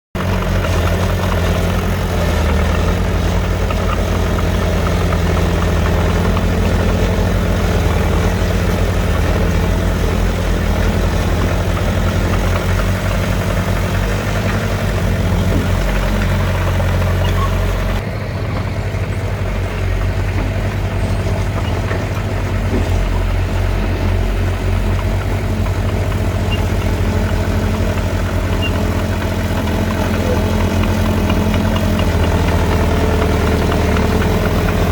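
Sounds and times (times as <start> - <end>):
heavy diesel engine rumbling: 0.1 - 34.9.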